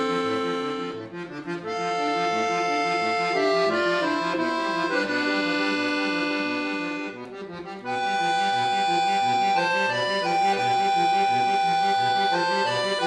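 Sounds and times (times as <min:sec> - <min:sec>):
solo accordion playing: 0:00.0 - 0:13.0.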